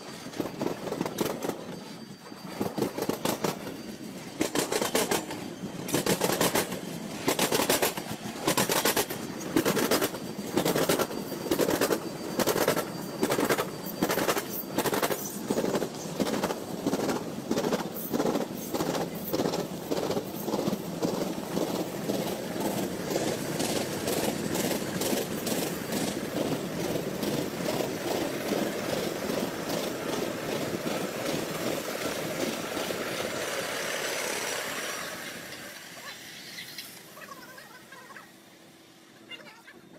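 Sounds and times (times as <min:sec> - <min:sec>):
train rumbling and clattering: 0:00.0 - 0:39.9.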